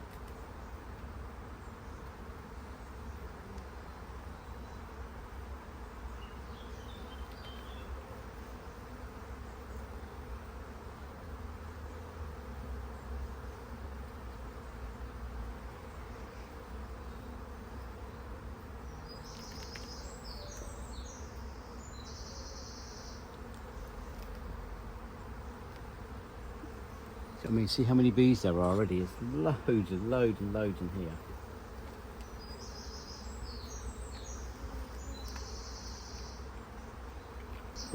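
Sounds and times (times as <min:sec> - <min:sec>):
honeybees buzzing: 0:00.0 - 0:37.9.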